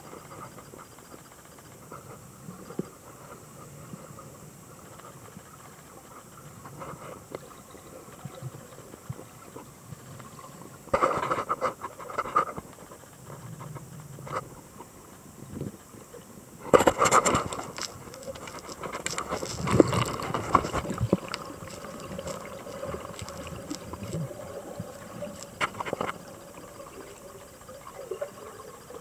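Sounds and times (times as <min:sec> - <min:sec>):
muffled underwater rushing hiss: 0:01.7 - 0:29.0
small underwater clicks: 0:04.8 - 0:29.0.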